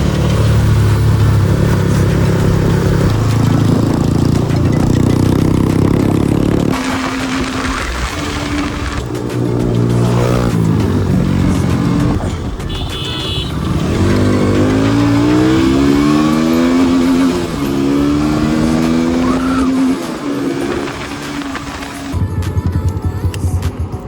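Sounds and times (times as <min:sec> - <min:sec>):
motorcycle engine shifting gears: 0:00.0 - 0:24.0.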